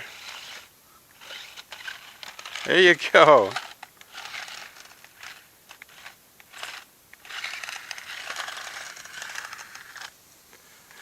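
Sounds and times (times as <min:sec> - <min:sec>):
toy car crunching over grass: 0:00.0 - 0:11.0.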